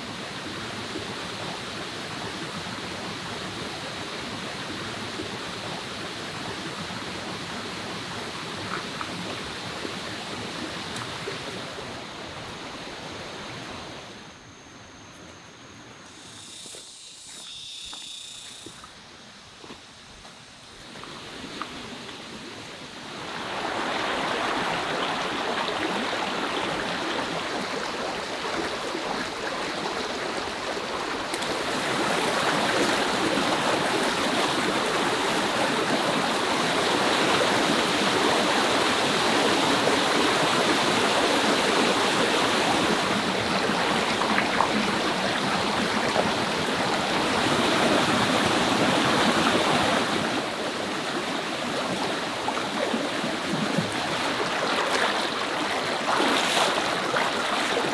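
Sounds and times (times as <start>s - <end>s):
mountain stream rushing over boulders: 0.0s - 14.2s, 19.6s - 57.9s.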